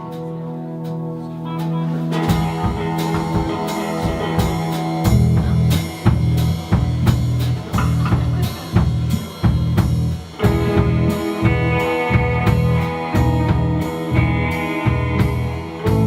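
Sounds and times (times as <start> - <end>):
instrumental music with drum kit: 0.0 - 16.0.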